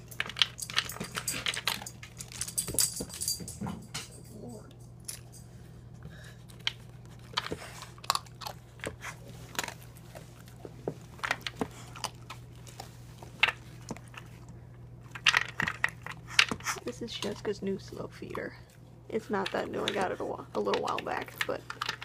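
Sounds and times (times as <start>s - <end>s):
dog crunching kibble: 0.0s - 3.2s, 6.2s - 22.0s.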